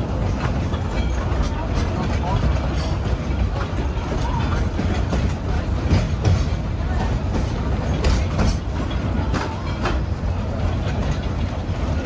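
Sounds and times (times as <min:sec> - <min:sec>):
train coach rumbling: 0:00.0 - 0:12.0
wheels clicking over rail joints: 0:00.0 - 0:12.0.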